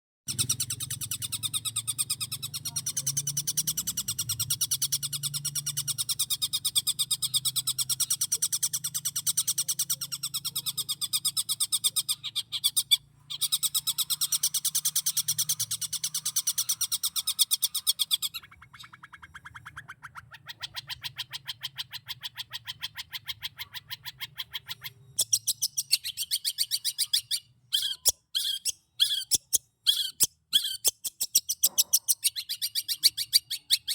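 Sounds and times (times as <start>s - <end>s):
bird singing mimicked calls: 0.3s - 33.9s
loud bird chirps: 0.3s - 33.9s.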